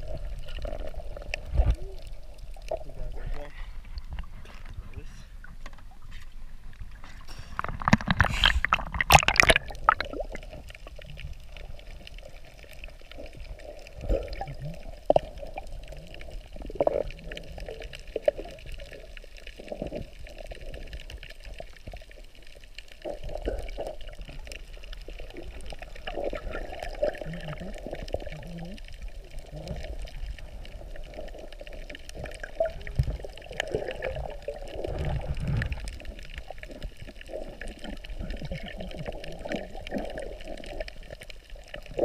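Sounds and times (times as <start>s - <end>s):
muffled underwater sound: 0.0s - 42.0s
sea water splashing: 0.0s - 42.0s
underwater knocks and gurgles: 0.0s - 42.0s.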